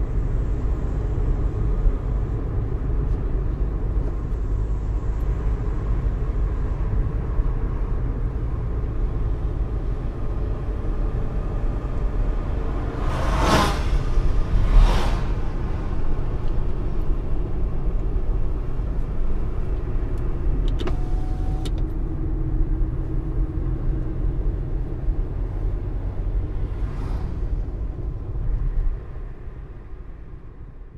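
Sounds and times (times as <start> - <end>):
car engine and road rumble: 0.0 - 30.9.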